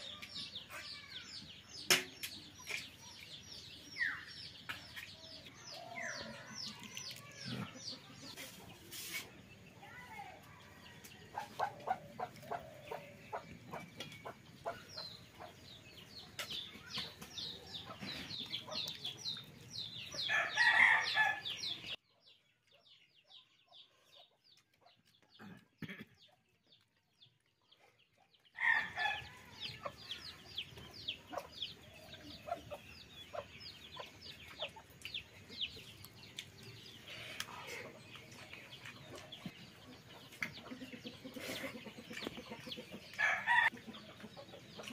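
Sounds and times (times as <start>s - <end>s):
chickens clucking: 0.0s - 9.8s, 10.8s - 22.0s, 23.3s - 44.9s.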